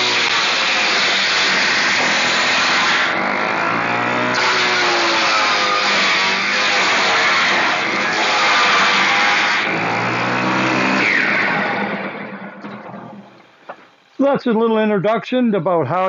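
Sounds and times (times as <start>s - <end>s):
table saw shredding cardboard: 0.0s - 14.1s.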